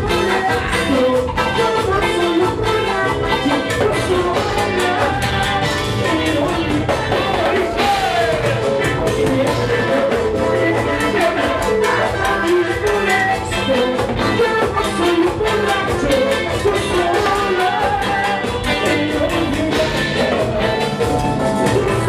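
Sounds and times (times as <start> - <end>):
live band playing latin dance music: 0.0 - 22.0
person singing: 0.0 - 22.0.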